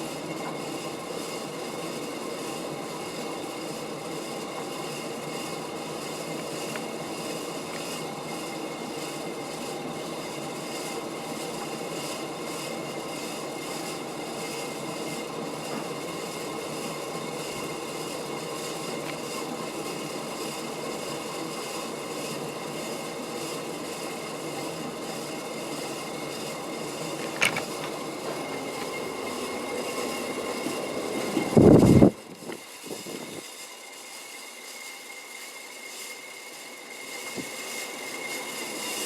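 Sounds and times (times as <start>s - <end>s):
ceiling fan whirring: 0.0s - 39.0s.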